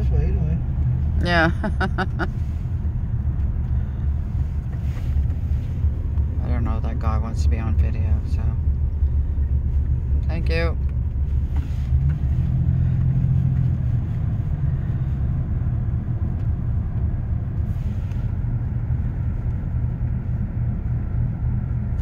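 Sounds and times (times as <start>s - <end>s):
car engine rumble inside cabin: 0.0s - 22.0s
road noise: 0.0s - 22.0s.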